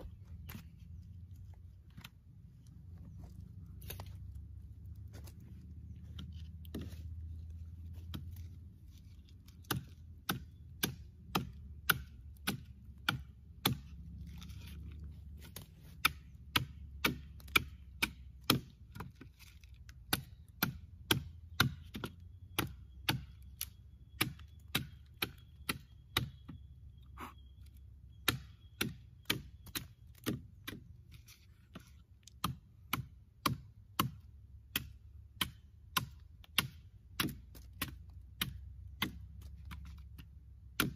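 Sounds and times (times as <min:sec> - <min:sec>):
hatchet chopping wood: 0:00.0 - 0:00.8, 0:06.1 - 0:07.2, 0:07.8 - 0:26.6, 0:28.1 - 0:40.9.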